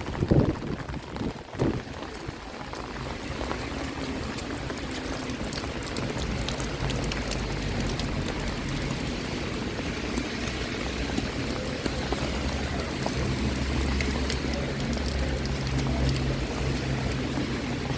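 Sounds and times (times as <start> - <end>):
rain falling: 0.0 - 17.9
raindrops ticking: 0.0 - 17.9.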